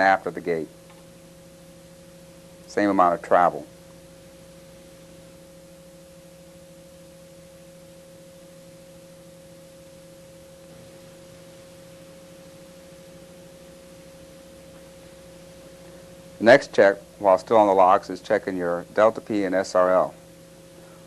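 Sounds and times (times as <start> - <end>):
faint steady tonal hum: 0.0 - 21.0.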